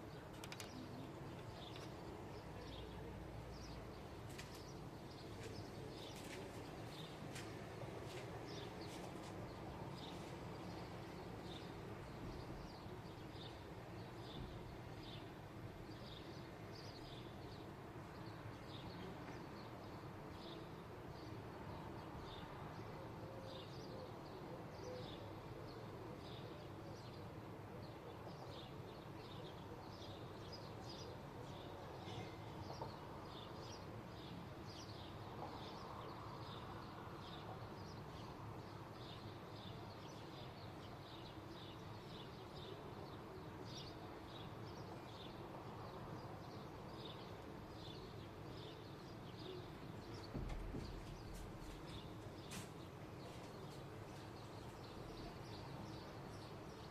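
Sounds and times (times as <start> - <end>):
small birds chirping: 0.0 - 22.6, 28.6 - 56.9.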